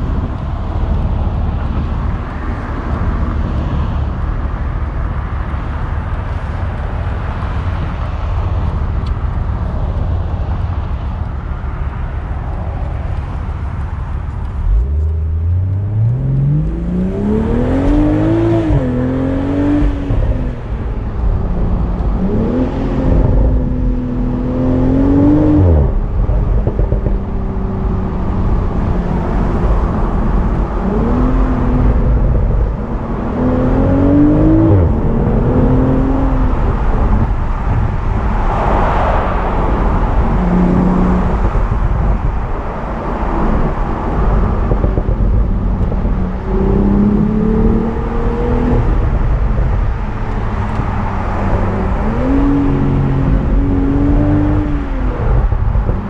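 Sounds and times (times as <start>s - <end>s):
car engine accelerating: 0.0s - 56.0s
road noise: 0.0s - 56.0s.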